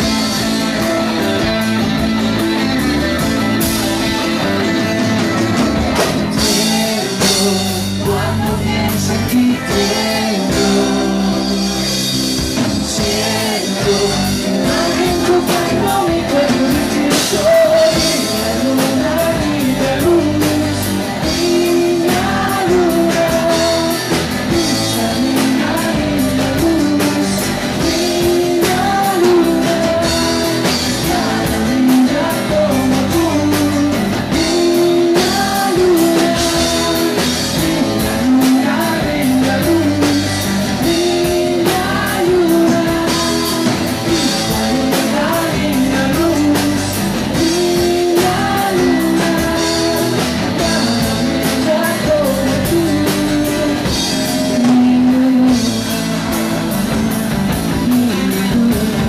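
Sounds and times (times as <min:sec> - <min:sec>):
rock song with guitar and drums: 0:00.0 - 0:59.0.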